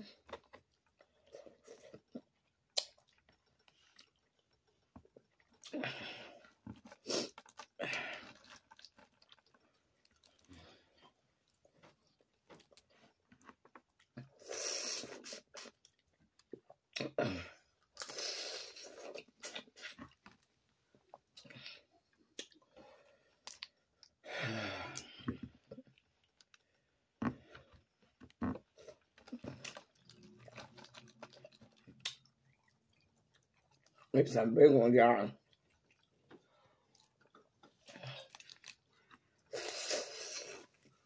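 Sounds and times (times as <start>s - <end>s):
wet chewing: 0.0s - 24.2s, 25.0s - 34.5s, 35.3s - 41.0s.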